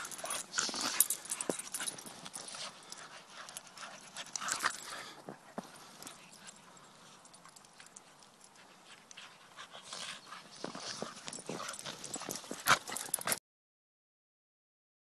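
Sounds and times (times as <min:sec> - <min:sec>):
dogs crunching in snow: 0:00.0 - 0:13.4.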